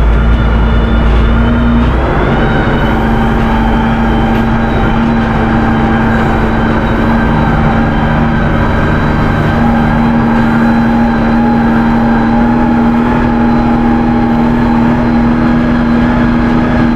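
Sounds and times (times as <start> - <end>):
tractor diesel engine droning: 0.0 - 16.9.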